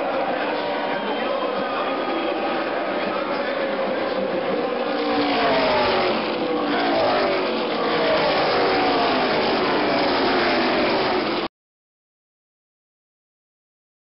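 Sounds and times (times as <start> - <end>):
race car engines passing: 0.0 - 11.5.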